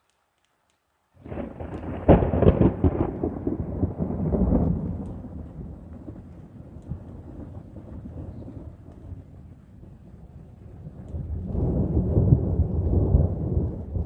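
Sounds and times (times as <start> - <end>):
thunder crack and rumble: 1.2 - 14.0.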